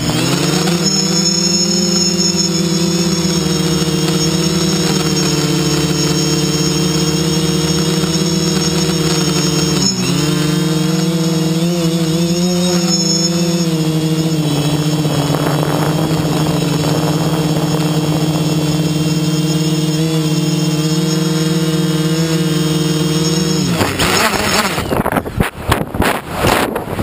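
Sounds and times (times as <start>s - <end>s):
drone propellers humming: 0.0s - 27.0s
wind noise on microphone: 2.4s - 27.0s.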